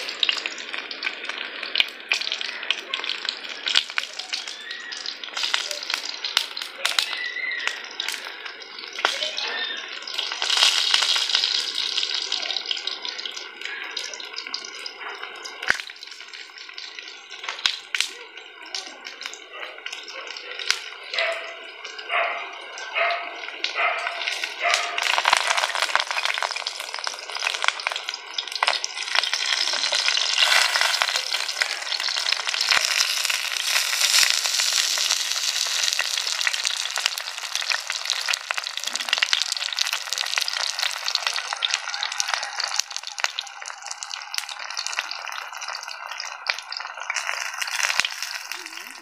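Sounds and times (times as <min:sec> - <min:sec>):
oil sizzling and crackling in pan: 0:00.0 - 0:49.0.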